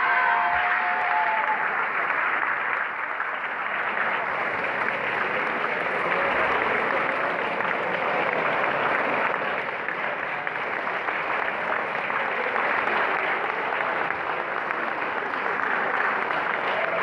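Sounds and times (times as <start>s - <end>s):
large audience applauding: 0.0s - 17.0s.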